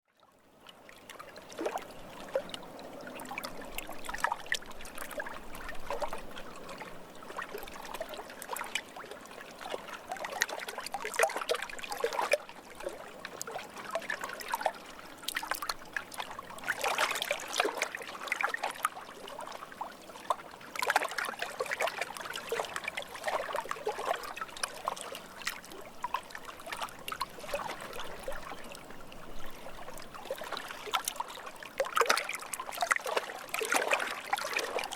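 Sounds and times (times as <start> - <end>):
lake water lapping: 0.8 - 34.9.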